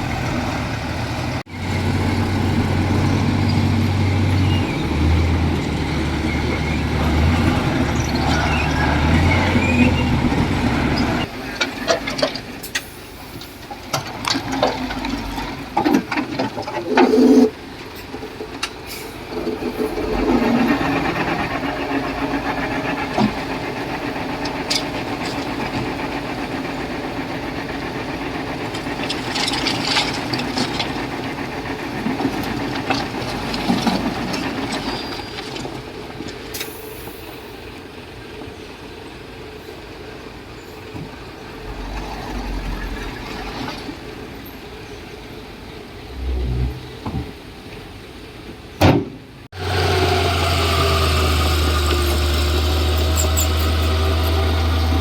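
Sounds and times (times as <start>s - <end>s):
bulldozer diesel engine running: 0.0s - 48.7s, 49.5s - 55.0s.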